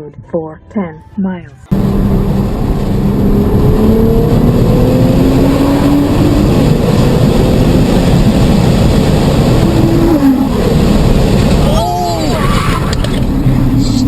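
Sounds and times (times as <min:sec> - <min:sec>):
car engine accelerating hard: 0:01.7 - 0:14.0
loud steady rushing noise: 0:01.7 - 0:14.0.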